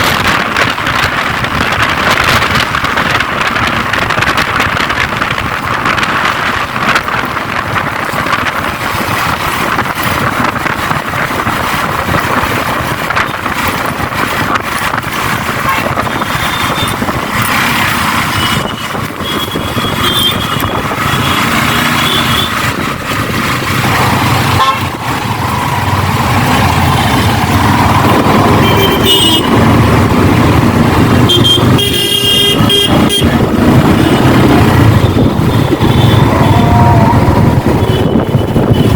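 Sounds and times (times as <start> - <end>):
road traffic: 0.0 - 38.9
wind noise: 0.0 - 38.9.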